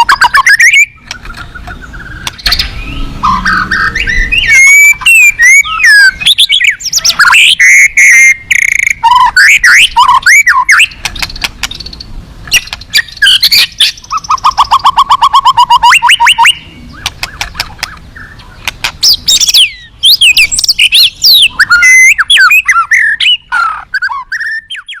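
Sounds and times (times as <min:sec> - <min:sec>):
songbird singing varied song: 0:00.0 - 0:25.0.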